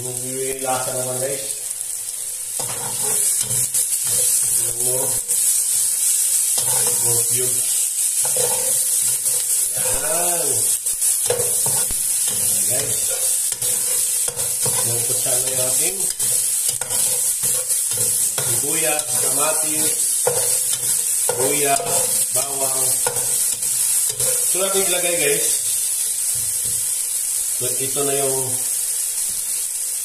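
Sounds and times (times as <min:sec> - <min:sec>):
vegetables sizzling in oil: 0:00.0 - 0:30.0
spoon scraping a pan: 0:02.5 - 0:27.0.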